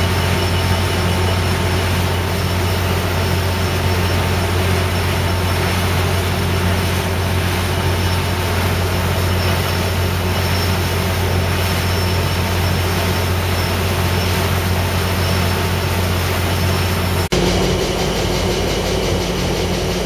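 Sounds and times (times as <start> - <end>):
diesel locomotive idling: 0.0 - 20.0.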